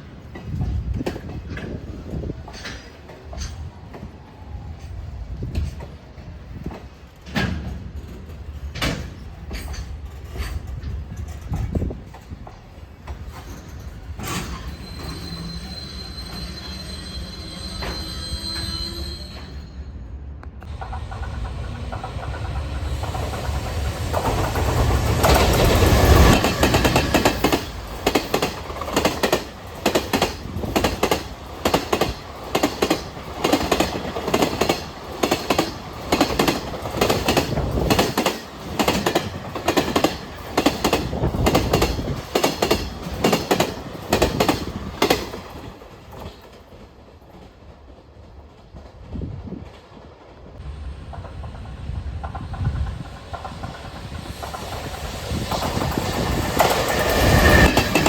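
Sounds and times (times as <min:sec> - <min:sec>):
freight train passing: 0:00.0 - 0:58.0
wagons clacking over rail joints: 0:00.2 - 0:04.2, 0:04.8 - 0:17.1, 0:20.6 - 0:49.0, 0:51.1 - 0:58.0.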